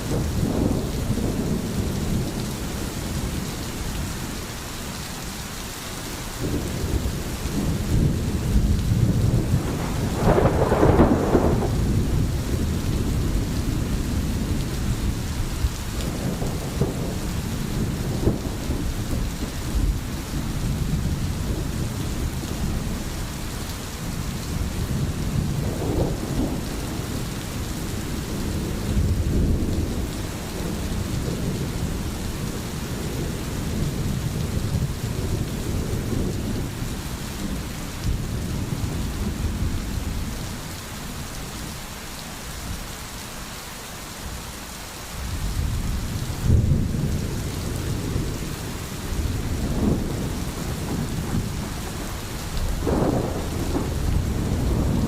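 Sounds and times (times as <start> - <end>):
rolling thunder: 0.0 - 3.5, 6.4 - 23.3, 24.0 - 40.6, 45.3 - 55.0
steady rain: 0.0 - 55.0.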